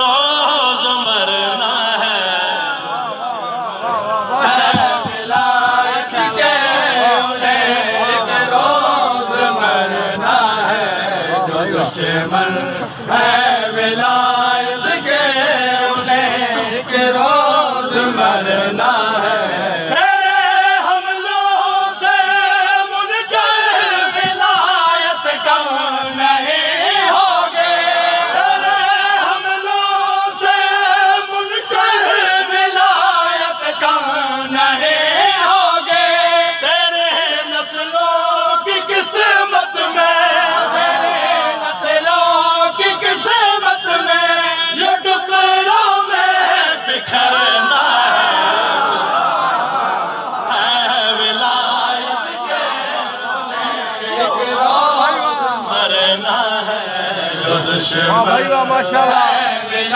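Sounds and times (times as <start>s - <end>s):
crowd voices: 0.0s - 59.9s
men chanting a lament: 0.0s - 59.9s.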